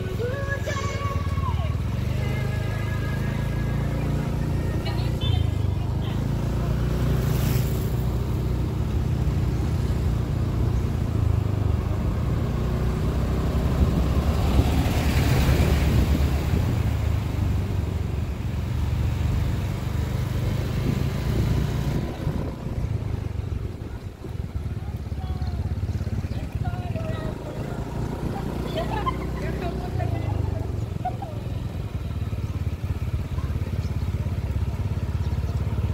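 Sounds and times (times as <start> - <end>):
small motorcycle engine running: 0.0 - 35.9.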